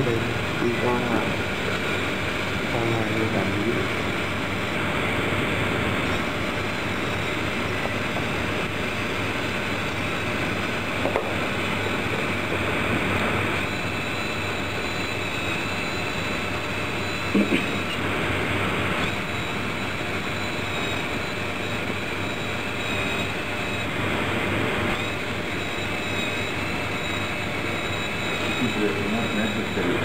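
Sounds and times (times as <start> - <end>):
electric motors whirring: 0.0 - 30.0.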